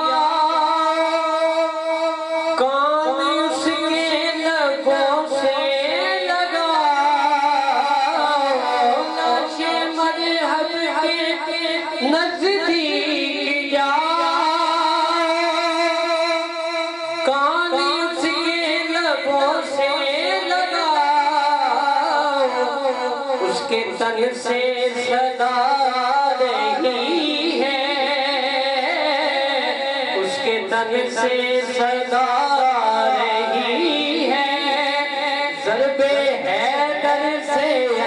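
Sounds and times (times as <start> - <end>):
man singing devotional verse: 0.0 - 38.0.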